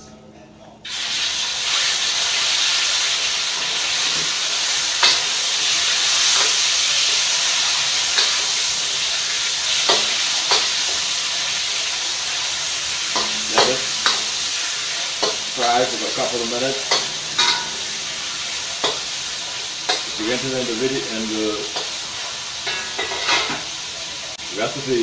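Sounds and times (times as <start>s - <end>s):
chicken sizzling in hot oil: 0.9s - 25.0s.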